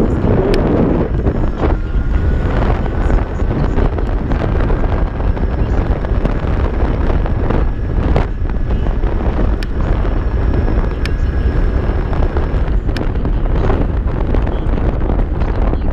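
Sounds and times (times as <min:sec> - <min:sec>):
electric motor whine: 0:00.0 - 0:15.4
heavy low rumble: 0:00.0 - 0:15.9
wind buffeting microphone: 0:00.0 - 0:15.9.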